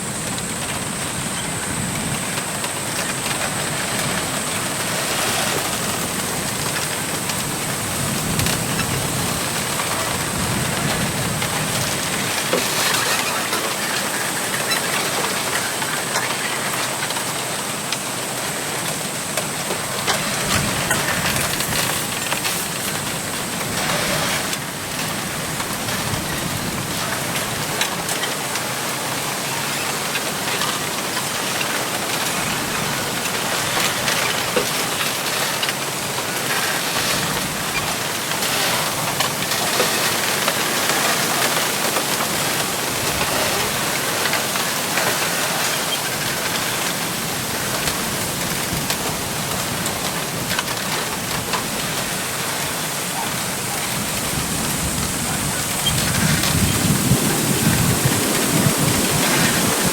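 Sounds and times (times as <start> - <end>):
wind rustling bamboo leaves: 0.0 - 59.9.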